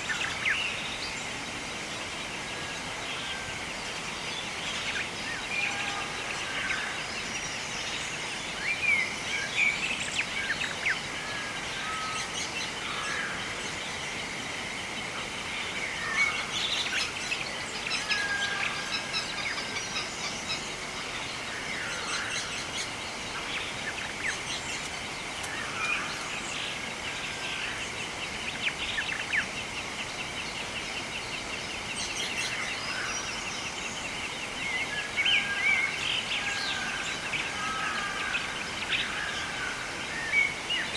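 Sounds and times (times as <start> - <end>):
birds chirping: 0.0 - 40.9
faint outdoor hiss: 0.0 - 40.9.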